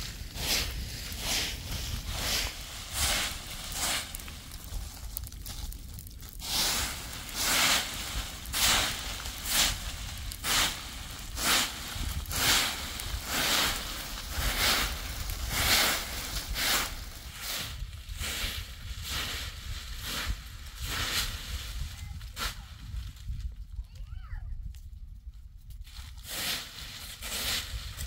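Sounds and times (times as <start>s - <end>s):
broom sweeping leaves: 0.0s - 5.6s, 6.4s - 23.0s, 25.8s - 28.0s
leaves rustling: 0.0s - 23.4s, 25.8s - 28.0s.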